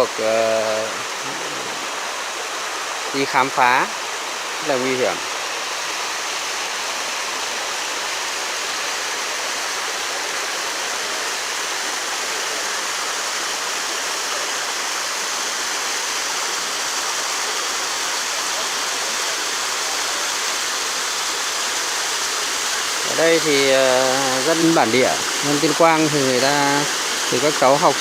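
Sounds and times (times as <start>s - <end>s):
water rushing over rocks: 0.0s - 28.0s.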